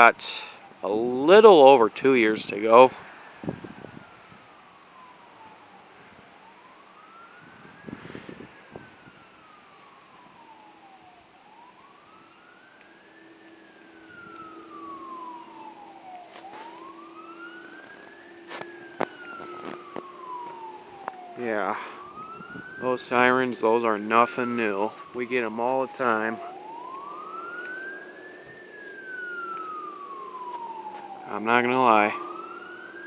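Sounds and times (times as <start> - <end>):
distant fire truck siren wailing: 0.0 - 33.0.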